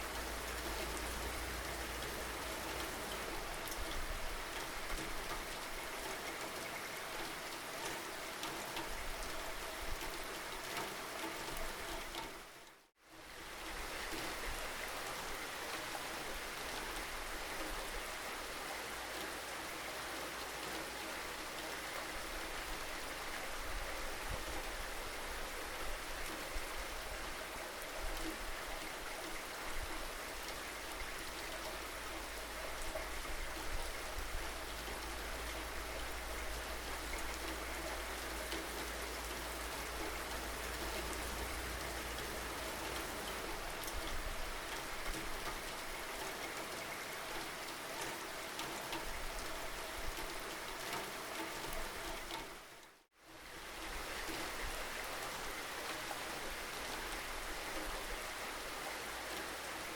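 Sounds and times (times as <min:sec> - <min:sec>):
raindrops ticking on surface: 0:00.0 - 0:12.9, 0:24.2 - 0:59.9
steady rain falling: 0:00.0 - 0:59.9.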